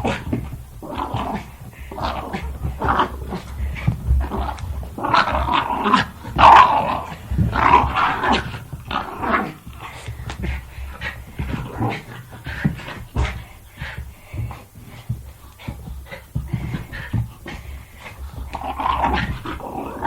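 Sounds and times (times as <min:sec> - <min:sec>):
dog growling: 0:00.0 - 0:20.0.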